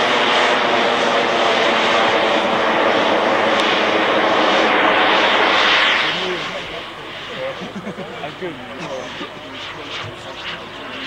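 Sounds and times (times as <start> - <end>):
model jet engine roaring: 0.0 - 11.0.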